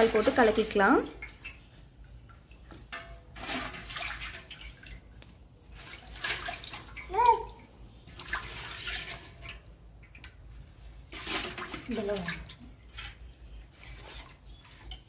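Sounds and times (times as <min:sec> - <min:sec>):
water sloshing in a pot: 0:00.0 - 0:15.0.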